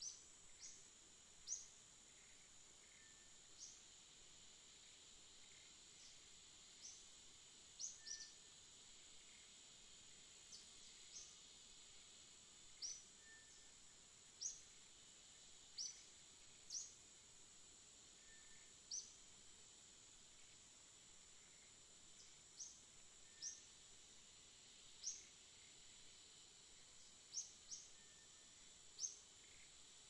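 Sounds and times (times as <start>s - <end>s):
high-pitched hiss: 0.0s - 30.0s.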